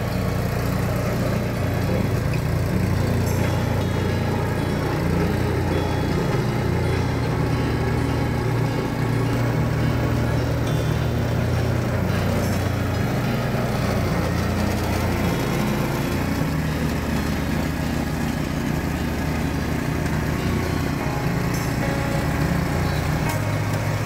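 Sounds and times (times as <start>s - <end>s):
snowblower engine running: 0.0s - 24.0s.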